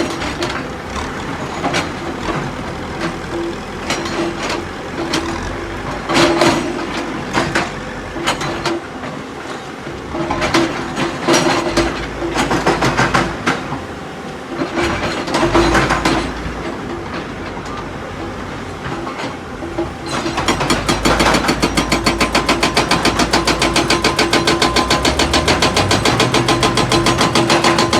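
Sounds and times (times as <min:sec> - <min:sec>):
clanks and rock scraping: 0:00.0 - 0:13.8, 0:18.8 - 0:27.9
hydraulic rock breaker hammering: 0:00.0 - 0:13.8, 0:19.0 - 0:27.9
excavator engine and hydraulics: 0:00.0 - 0:27.9.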